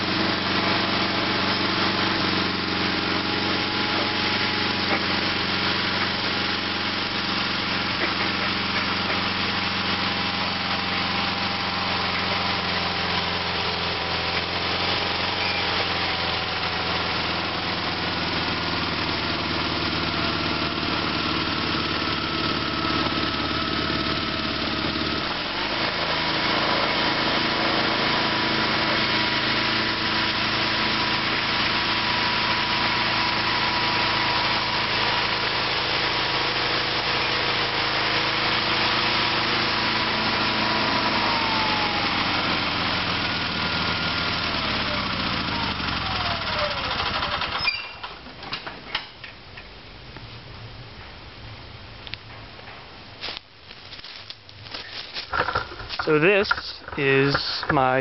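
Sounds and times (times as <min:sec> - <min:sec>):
garden tractor engine running: 0:00.0 - 0:49.7, 0:52.0 - 0:58.0.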